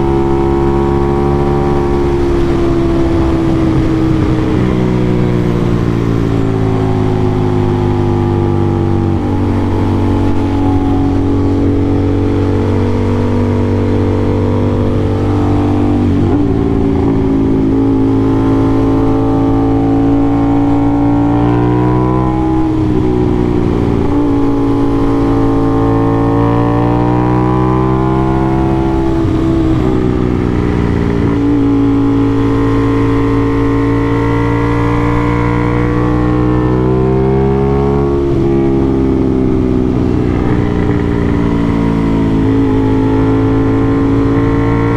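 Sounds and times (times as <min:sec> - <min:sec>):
sport bike engine revving: 0:00.0 - 0:44.9.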